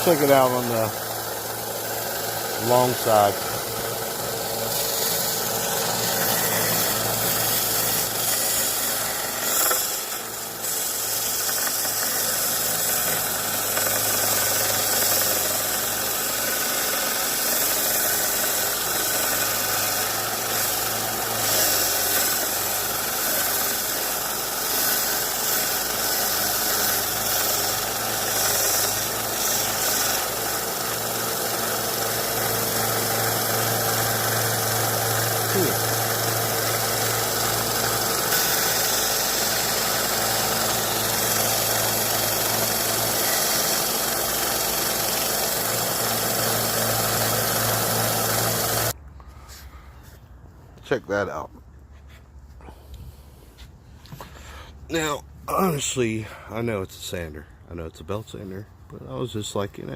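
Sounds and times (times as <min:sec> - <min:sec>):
belt sander grinding wood: 0:00.0 - 0:49.0.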